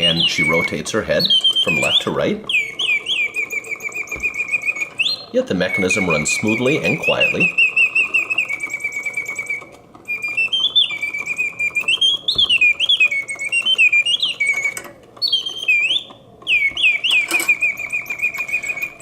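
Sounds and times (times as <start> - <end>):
clockwork ticking: 0.0 - 19.0
mechanical bird warbling song: 0.0 - 19.0.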